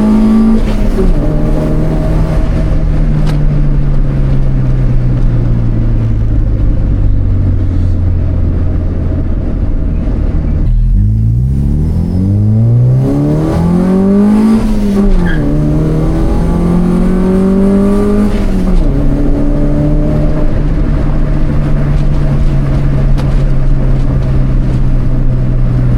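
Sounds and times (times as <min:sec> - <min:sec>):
car engine accelerating hard: 0:00.0 - 0:25.9.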